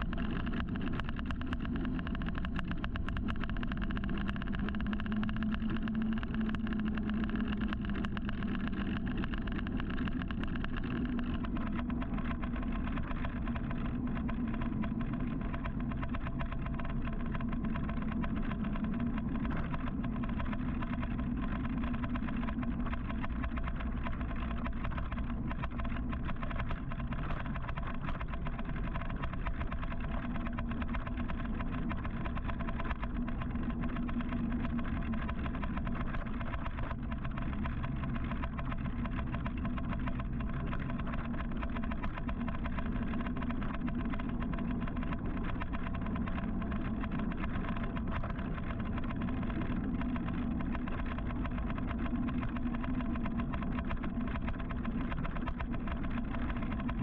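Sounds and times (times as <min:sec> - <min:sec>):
car engines idling and running: 0:00.0 - 0:57.0.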